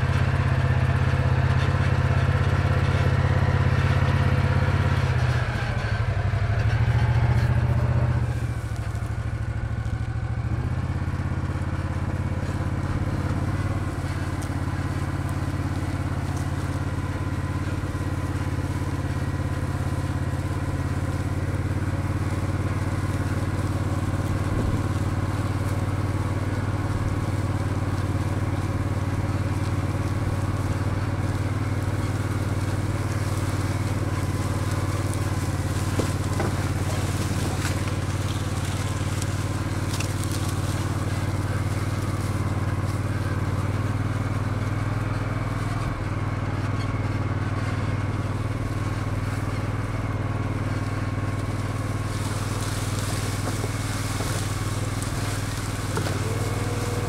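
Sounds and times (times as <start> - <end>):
dry stalks crunching under wheels: 0.0 - 57.0
off-road vehicle engine running: 0.0 - 57.0.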